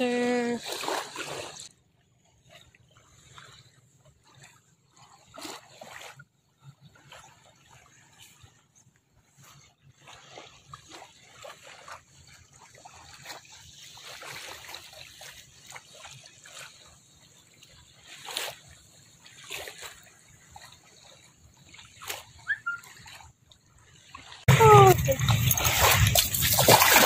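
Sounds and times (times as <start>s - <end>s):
small waves lapping on sand: 0.0s - 1.7s, 2.3s - 27.0s.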